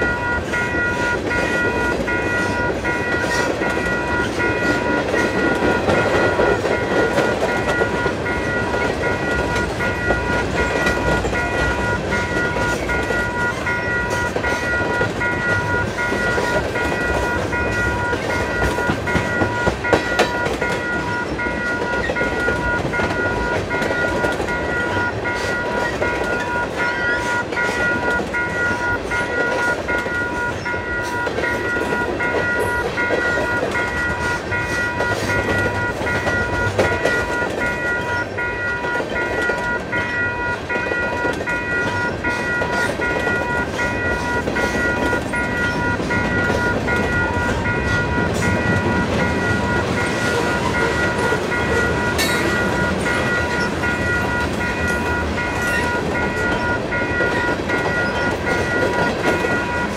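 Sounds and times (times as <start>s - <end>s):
freight train rumbling past: 0.0s - 59.9s
railroad crossing bells ringing: 0.0s - 59.9s
train wheels clacking on rail joints: 0.0s - 59.9s.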